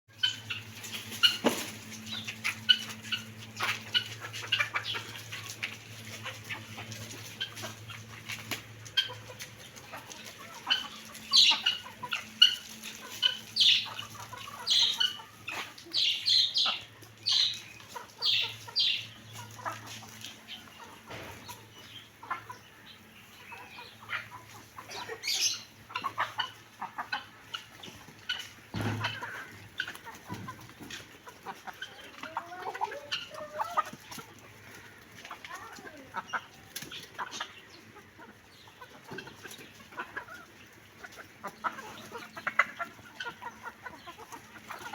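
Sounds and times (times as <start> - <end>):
birds calling: 0.1 - 44.9.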